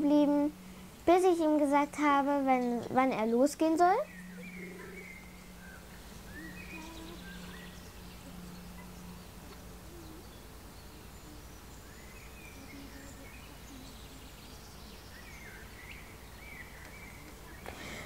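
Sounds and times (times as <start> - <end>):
distant birds chirping: 0.0 - 18.0
faint outdoor background noise: 0.0 - 18.0.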